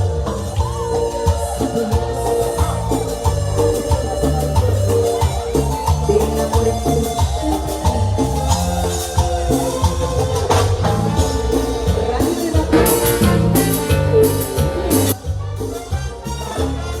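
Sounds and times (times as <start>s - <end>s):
latin dance band playing: 0.0s - 17.0s.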